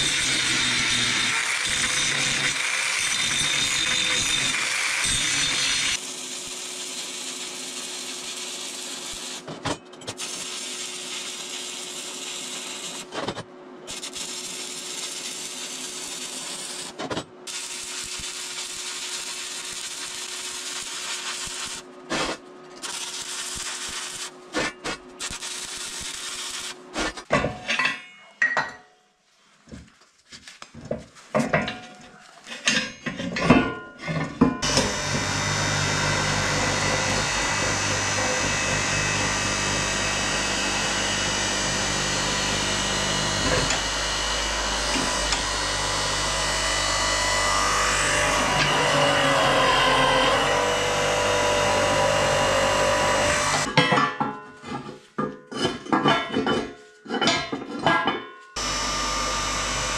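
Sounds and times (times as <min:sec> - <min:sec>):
loud workshop tool noise: 0:00.0 - 0:28.0, 0:31.0 - 0:59.9.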